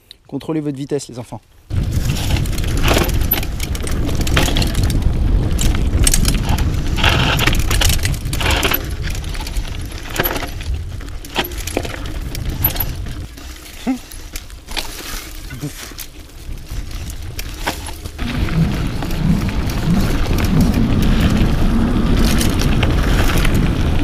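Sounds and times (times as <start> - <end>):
low rumble of wind on microphone: 1.6 - 24.0
bike chain rattling: 1.9 - 24.0.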